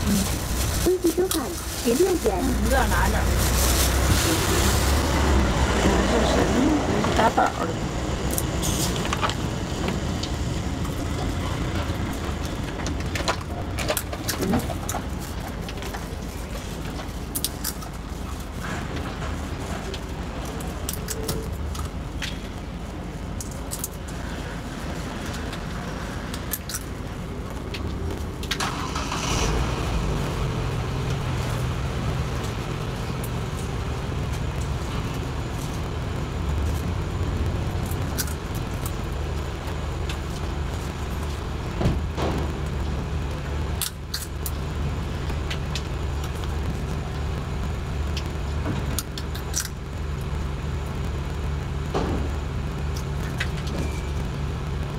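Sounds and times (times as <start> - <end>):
road vehicles rumbling: 0.0 - 54.9.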